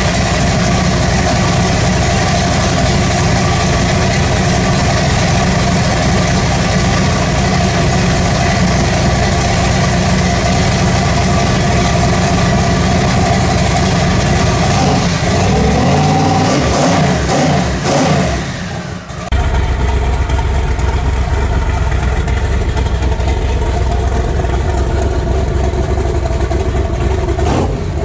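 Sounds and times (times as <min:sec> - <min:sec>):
engine idling loudly: 0:00.0 - 0:28.0.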